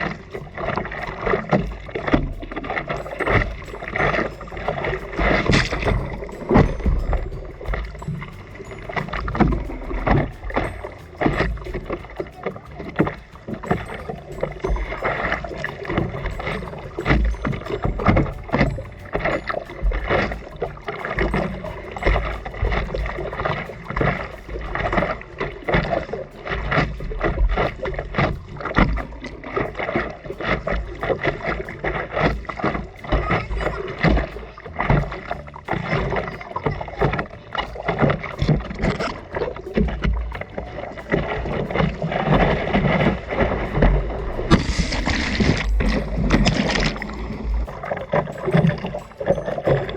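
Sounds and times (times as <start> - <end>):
sea water splashing: 0.0 - 49.9
wind rumbling on microphone: 0.0 - 49.9.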